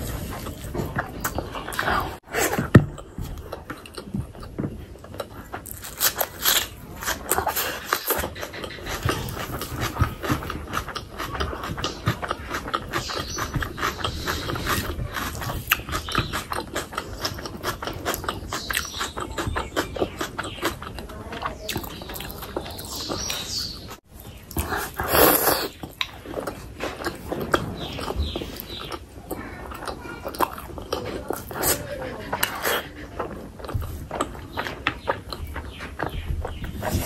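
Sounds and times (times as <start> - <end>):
chewing and lip smacking: 0.0 - 37.0.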